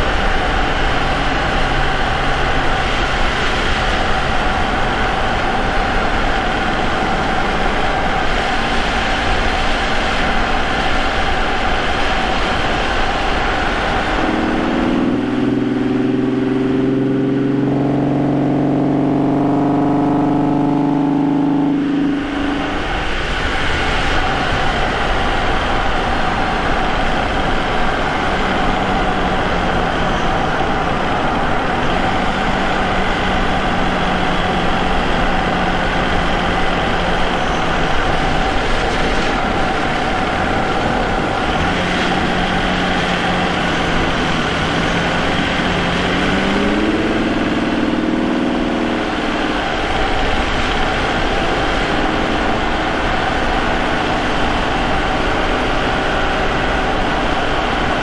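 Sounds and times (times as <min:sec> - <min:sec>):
car engine running: 0:00.0 - 0:58.0
road noise: 0:00.0 - 0:58.0.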